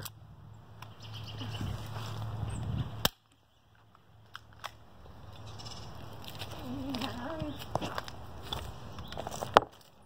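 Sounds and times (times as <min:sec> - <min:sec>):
rustle: 0:00.8 - 0:10.0.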